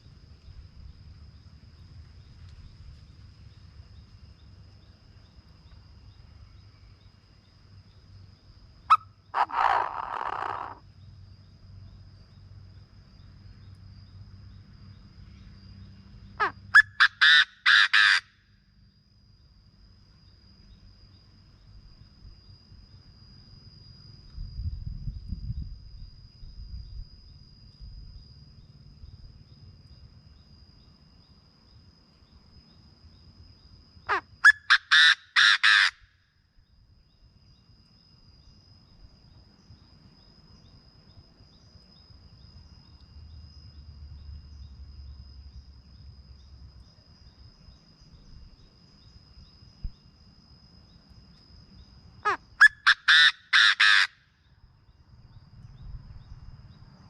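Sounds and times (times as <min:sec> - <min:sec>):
high-pitched insect trill: 0:00.0 - 0:57.0.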